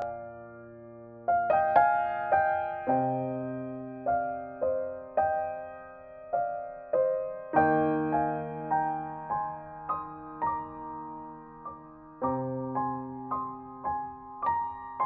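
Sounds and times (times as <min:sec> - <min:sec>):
slow solo piano piece: 0:00.0 - 0:15.0.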